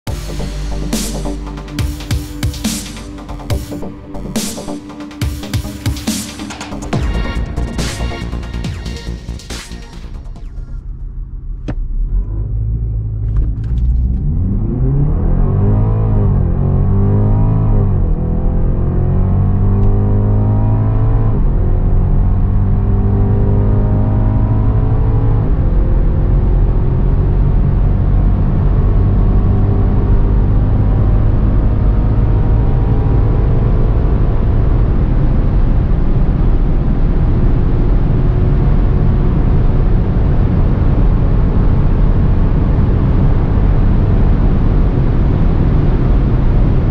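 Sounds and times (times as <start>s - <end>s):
car engine accelerating: 0.0s - 46.9s
road and wind rush: 0.0s - 46.9s.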